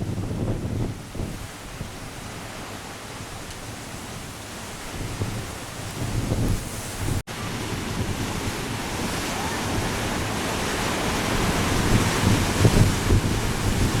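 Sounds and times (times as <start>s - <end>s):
waves breaking on shore: 0.0s - 14.0s
wind buffeting microphone: 0.0s - 14.0s.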